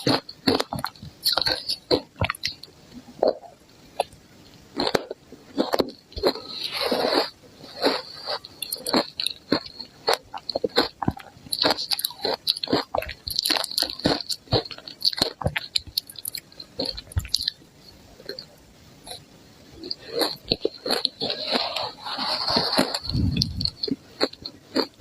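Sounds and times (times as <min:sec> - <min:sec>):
chewing ice crunching: 0:00.0 - 0:02.7, 0:04.8 - 0:17.6, 0:19.9 - 0:25.0.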